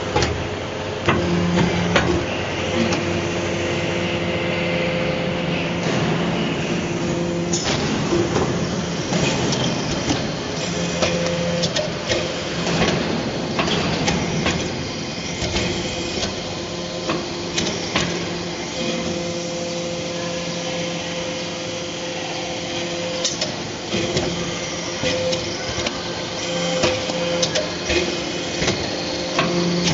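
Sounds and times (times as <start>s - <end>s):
hydraulic pump humming: 0.0s - 29.9s.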